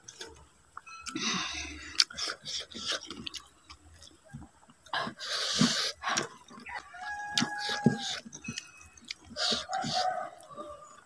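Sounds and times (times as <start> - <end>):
mouth smacks and chewing: 1.9 - 11.0.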